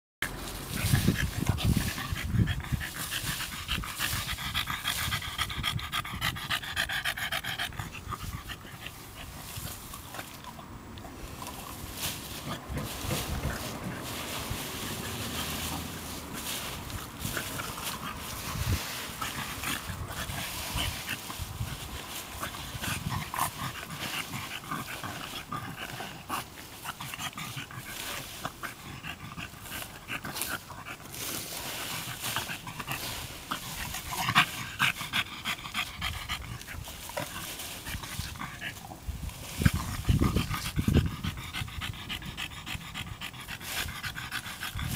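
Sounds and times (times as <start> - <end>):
leaves rustling and crackling: 0.2 - 5.4, 7.8 - 41.3
rake tines scraping leaves: 0.2 - 5.4, 6.5 - 41.6, 43.4 - 44.9
dog breathing hard and snuffling: 0.2 - 44.9.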